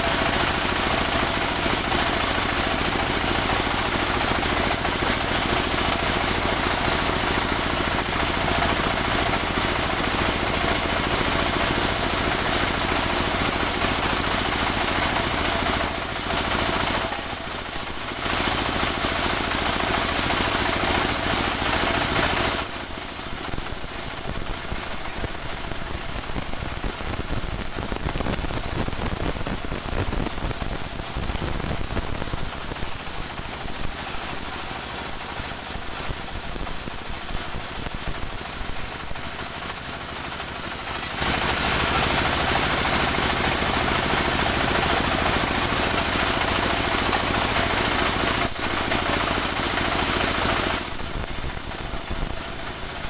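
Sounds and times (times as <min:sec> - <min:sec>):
engine drone: 0:00.0 - 0:53.0.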